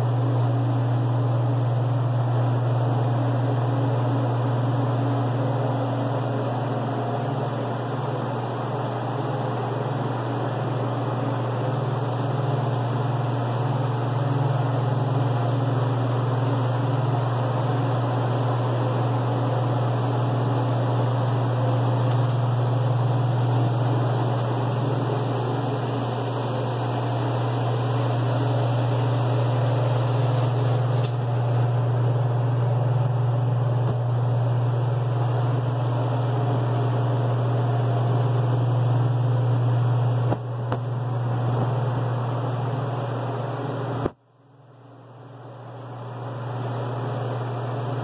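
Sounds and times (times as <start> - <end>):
refrigeration fans humming: 0.0 - 48.0.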